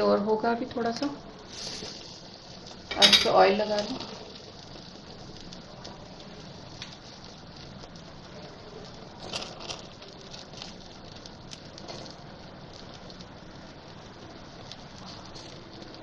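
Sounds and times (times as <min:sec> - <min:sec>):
chicken sizzling on grill: 0:00.0 - 0:16.0
oil flaring and crackling: 0:00.8 - 0:16.0.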